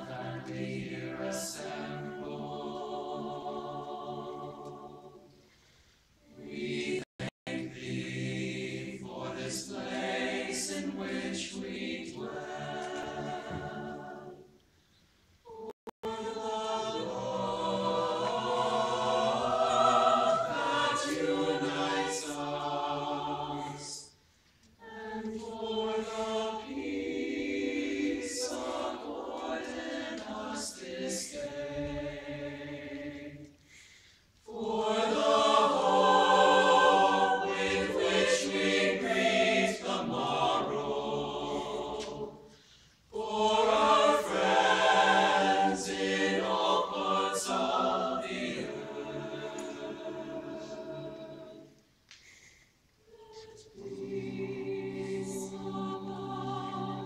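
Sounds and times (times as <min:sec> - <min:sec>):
choir singing in parts: 0:00.0 - 0:05.6, 0:06.2 - 0:14.7, 0:15.4 - 0:57.0.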